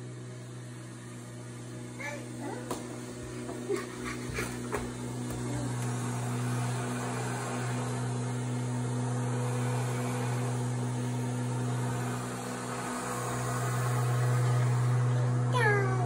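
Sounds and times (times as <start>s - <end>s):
lawn mower motor hum: 0.0s - 16.0s.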